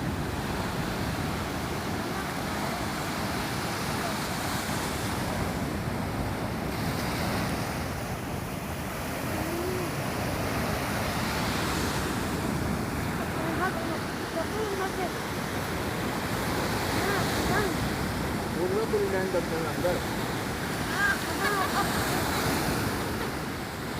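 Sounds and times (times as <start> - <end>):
sea surf washing in: 0.0 - 23.9.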